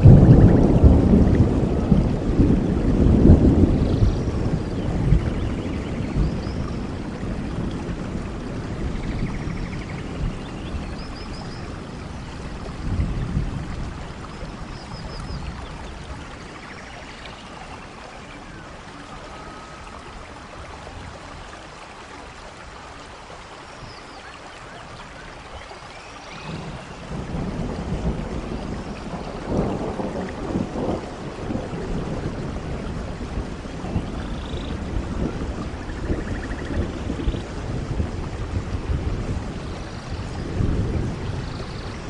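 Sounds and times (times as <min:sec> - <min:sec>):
thunder rumbling: 0:00.0 - 0:21.6, 0:26.3 - 0:42.0
steady rain: 0:00.0 - 0:42.0.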